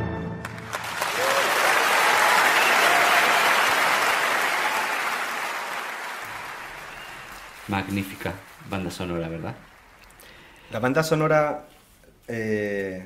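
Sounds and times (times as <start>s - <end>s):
audience applauding: 0.4s - 10.9s.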